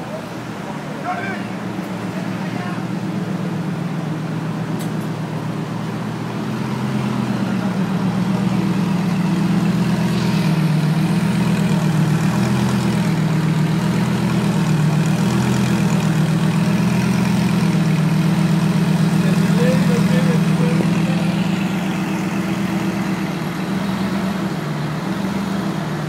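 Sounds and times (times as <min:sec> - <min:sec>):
sports car engine idling: 0:00.0 - 0:26.0.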